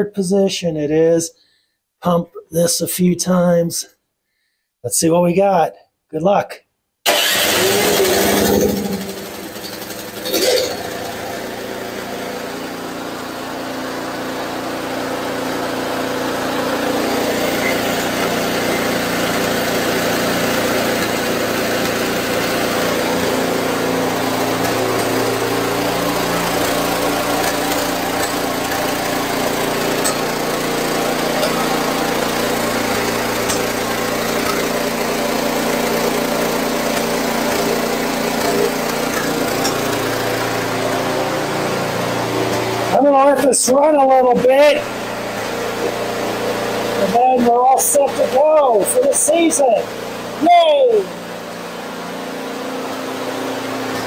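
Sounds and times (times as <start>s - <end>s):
small gas engine running: 7.1s - 54.0s.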